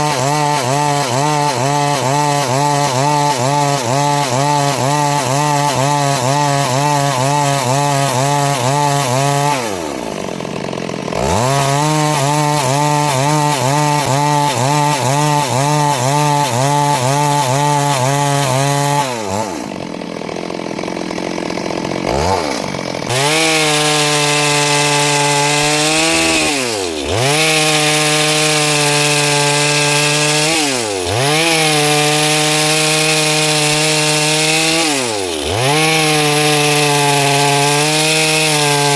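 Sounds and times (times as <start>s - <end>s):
chainsaw cutting through wood: 0.0s - 38.9s.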